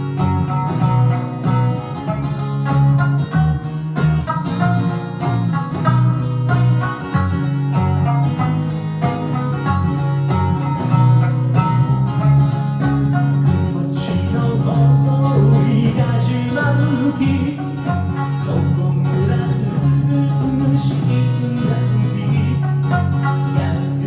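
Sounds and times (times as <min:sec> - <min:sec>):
electric lute plucking melody: 0:00.0 - 0:24.0
sustained low bass: 0:00.0 - 0:24.0.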